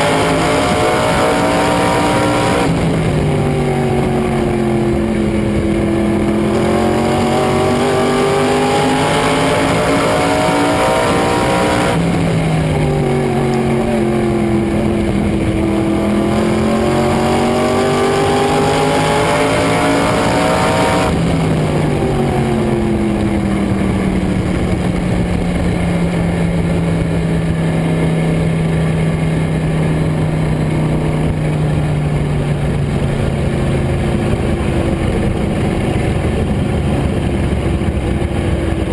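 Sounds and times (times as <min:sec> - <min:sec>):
race car engine at speed: 0:00.0 - 0:38.9.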